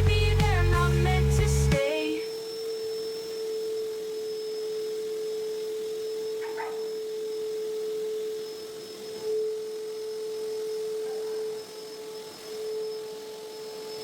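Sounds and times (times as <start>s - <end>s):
steady pure tone: 0.0s - 14.0s.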